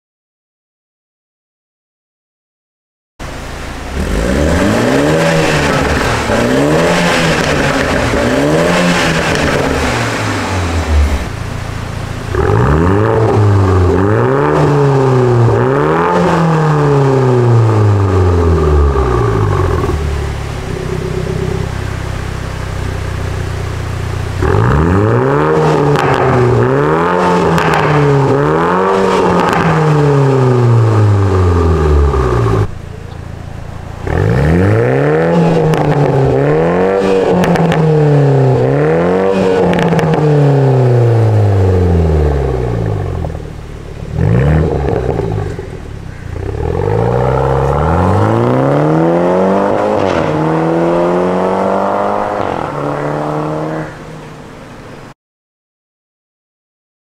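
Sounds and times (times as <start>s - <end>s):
turbocharged car engine revving: 3.2s - 55.0s.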